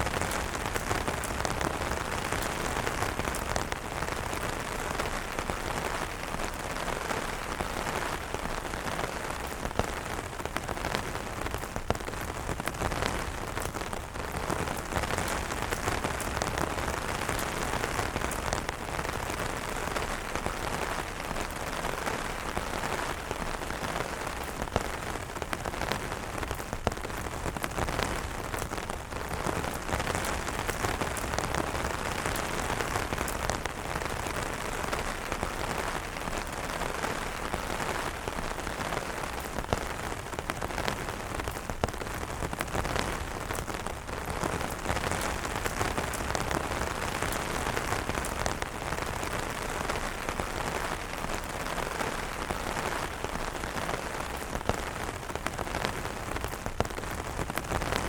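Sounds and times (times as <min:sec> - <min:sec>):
rain pattering on umbrellas: 0:00.0 - 0:58.0.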